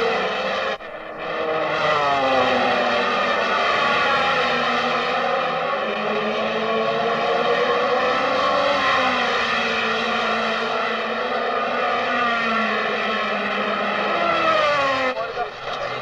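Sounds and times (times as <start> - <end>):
racing car engine at high revs: 0.0 - 16.0.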